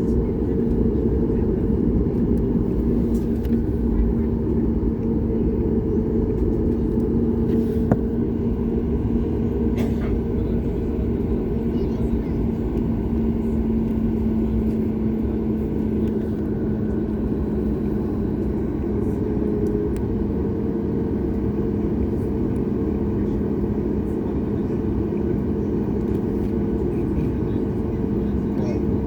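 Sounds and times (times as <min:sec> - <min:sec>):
airplane cabin engine drone: 0:00.0 - 0:29.0.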